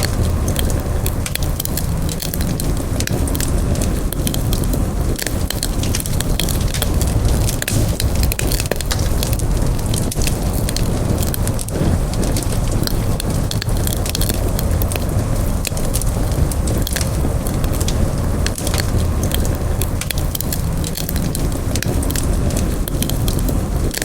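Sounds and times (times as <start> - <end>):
low rumble of flame: 0.0 - 24.0
wood fire crackling and popping: 0.0 - 24.0.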